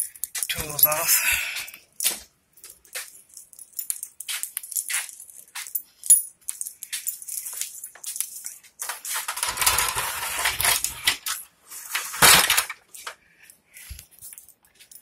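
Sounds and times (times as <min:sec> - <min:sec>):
metal tools clattering and scraping: 0:00.0 - 0:15.0.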